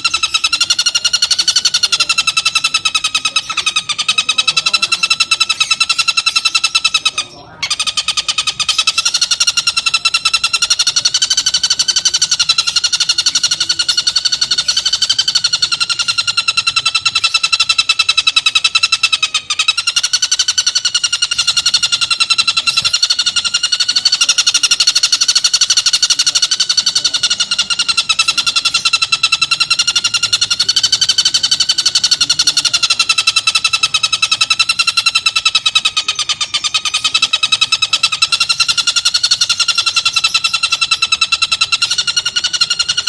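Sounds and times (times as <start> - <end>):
kingfisher rattling call: 0.0 - 43.0.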